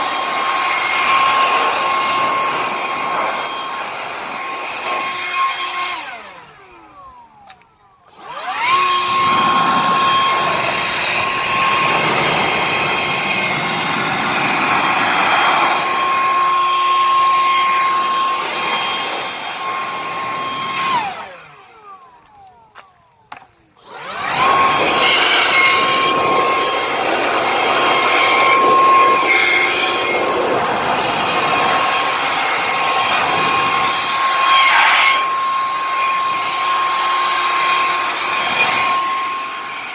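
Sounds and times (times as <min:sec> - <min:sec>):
cordless blower whining: 0:00.0 - 0:39.9.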